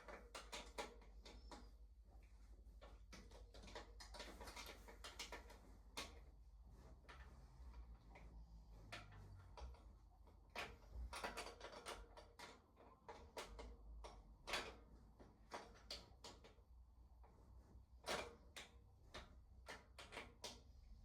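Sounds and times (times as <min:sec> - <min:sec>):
bike parts and tools clicking: 0:00.0 - 0:01.8, 0:02.8 - 0:06.2, 0:08.1 - 0:16.6, 0:18.0 - 0:21.0.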